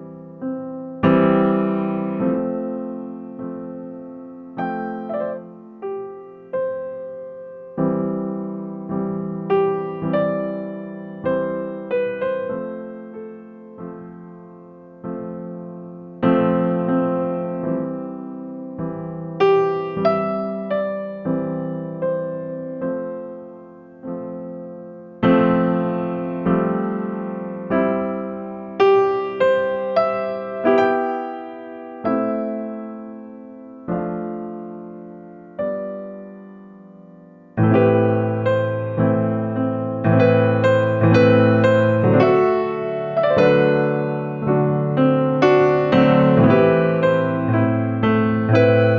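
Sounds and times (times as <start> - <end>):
slow piano melody: 0.0 - 48.9.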